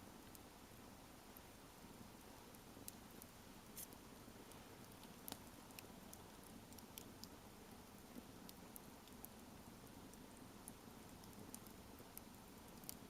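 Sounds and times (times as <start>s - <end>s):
campfire wood crackling: 0.0s - 13.0s
low steady hiss: 0.0s - 13.0s.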